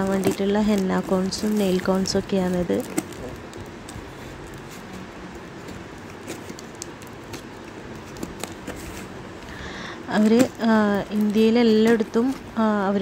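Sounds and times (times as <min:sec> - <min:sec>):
hands handling cardboard parcel: 0:00.0 - 0:13.0.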